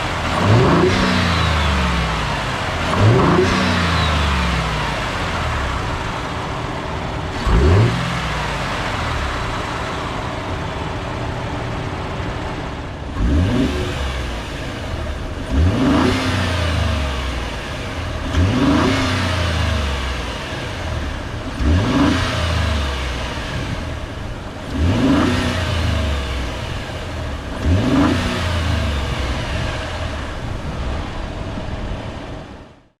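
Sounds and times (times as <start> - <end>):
truck engine idling and revving: 0.0 - 33.0.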